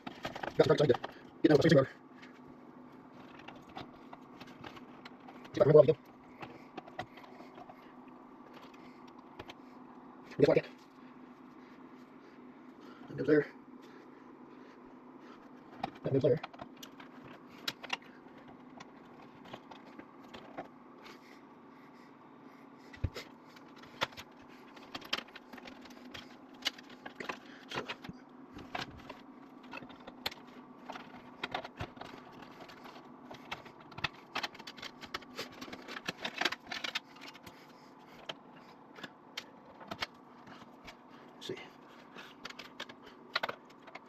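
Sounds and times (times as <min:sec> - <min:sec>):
computer parts clicking and rattling: 0:00.0 - 0:02.5, 0:03.1 - 0:11.3, 0:15.4 - 0:21.2, 0:22.9 - 0:44.0
low steady hum: 0:00.0 - 0:44.0.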